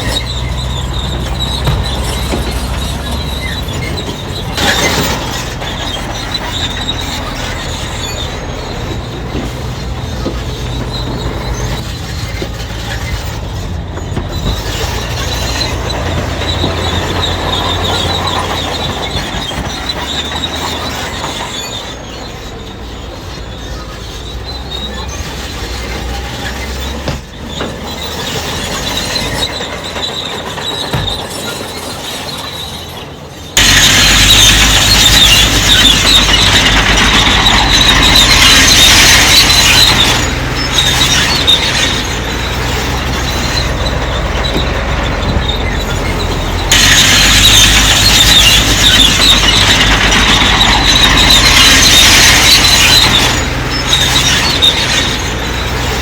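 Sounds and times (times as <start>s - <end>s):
bulldozer diesel engine: 0.0s - 56.0s
steel tracks squealing and clanking: 0.0s - 56.0s.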